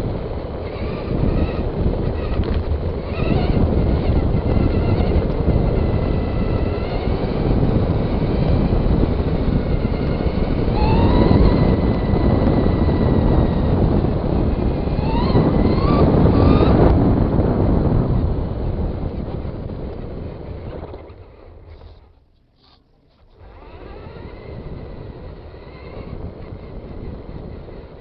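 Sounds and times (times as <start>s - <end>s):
electric motor whining: 0.0s - 28.0s
wind on microphone: 0.0s - 28.0s.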